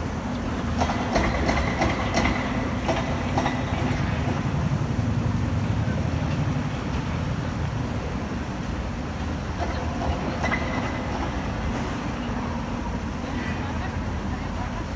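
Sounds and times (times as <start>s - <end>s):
city traffic rumble: 0.0s - 14.9s.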